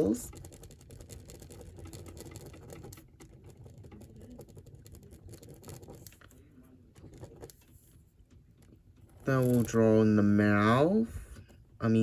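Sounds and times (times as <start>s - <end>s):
faint scribbling on paper: 0.0s - 10.0s.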